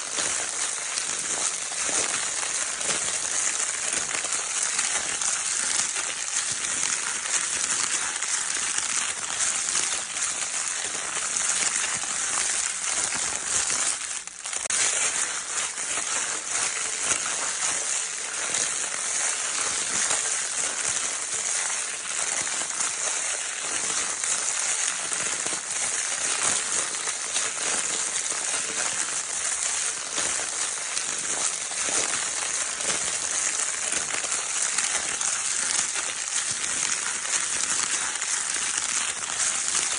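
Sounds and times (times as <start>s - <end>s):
crinkle paper rustling: 0.0s - 39.9s.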